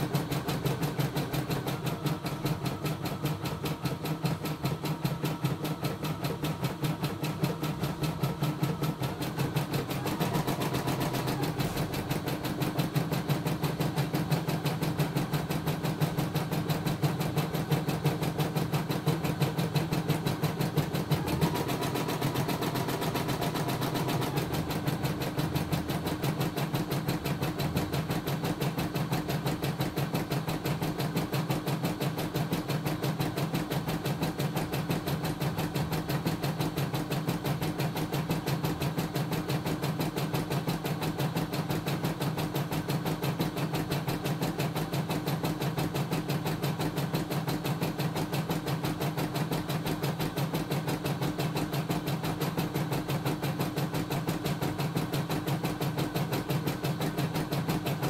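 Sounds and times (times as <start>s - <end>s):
machine motor running: 0.0s - 47.1s.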